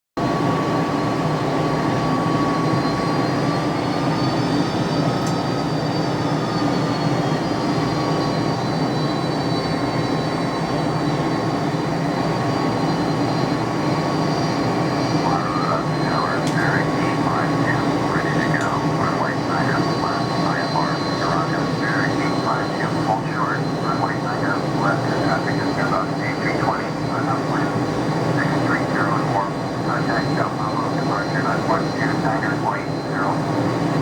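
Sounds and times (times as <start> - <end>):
jet engines roaring: 0.2 - 34.0
thin engine whine: 0.3 - 34.0.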